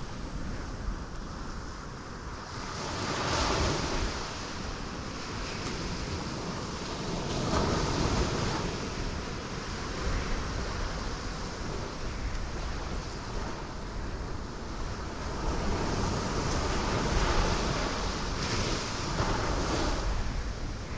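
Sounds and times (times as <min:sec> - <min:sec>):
ocean waves breaking on rocks: 0:00.0 - 0:20.9.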